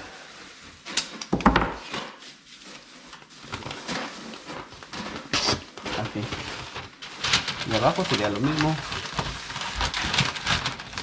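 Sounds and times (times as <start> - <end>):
tape crackling: 2.0 - 11.0.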